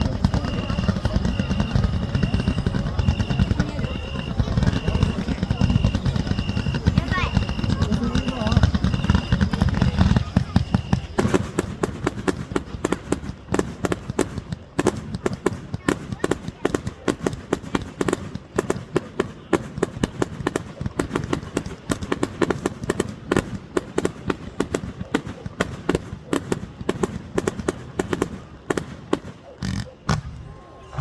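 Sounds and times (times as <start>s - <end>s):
fireworks popping and banging: 0.0s - 31.0s.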